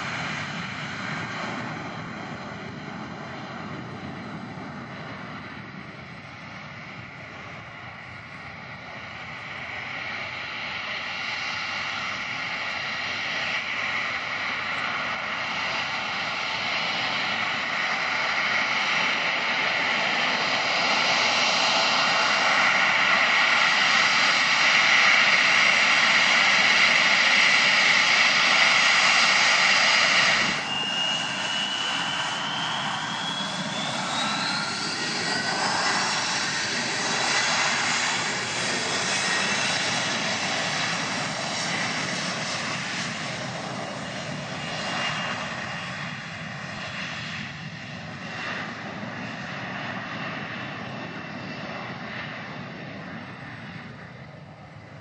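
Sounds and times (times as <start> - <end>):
jet airliner taking off: 0.0 - 55.0
jet engine whine rising: 0.0 - 55.0.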